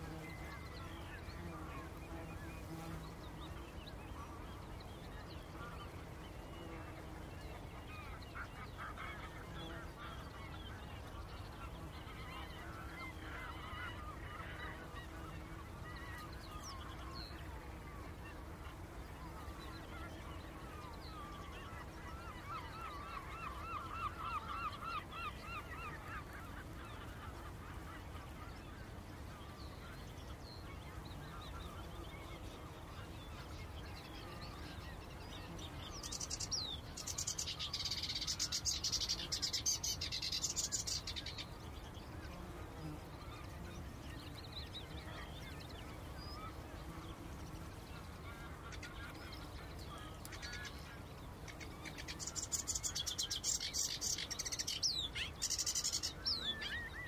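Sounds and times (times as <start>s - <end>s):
low background noise: 0.0s - 57.0s.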